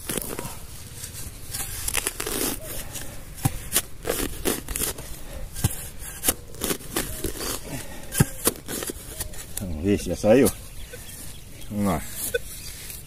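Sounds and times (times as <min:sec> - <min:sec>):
shovel scraping soil: 0:00.0 - 0:13.0.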